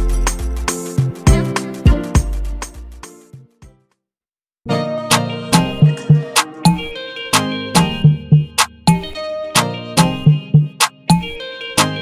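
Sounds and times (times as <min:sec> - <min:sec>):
pop love song with drum beat: 0:00.0 - 0:03.2, 0:05.1 - 0:12.0.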